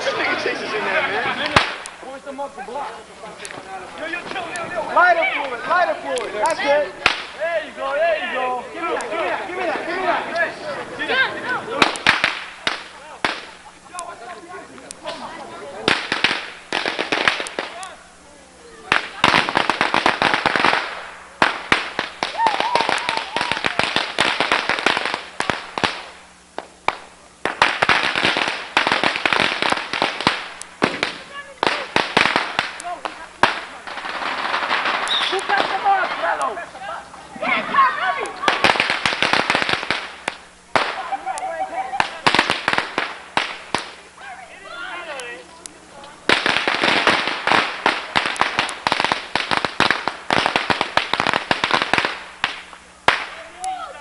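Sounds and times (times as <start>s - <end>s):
firecrackers cracking: 0.0s - 54.0s.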